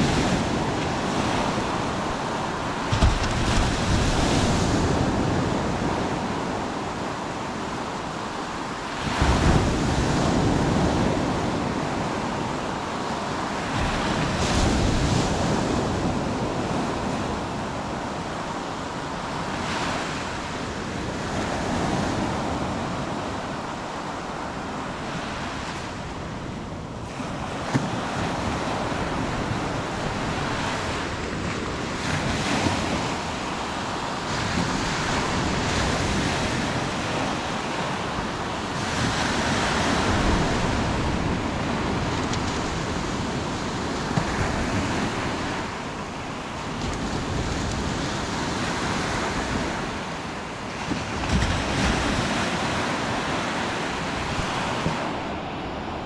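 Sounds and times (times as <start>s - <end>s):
sea surf breaking on shore: 0.0s - 56.0s
wind rumbling on microphone: 0.0s - 56.0s.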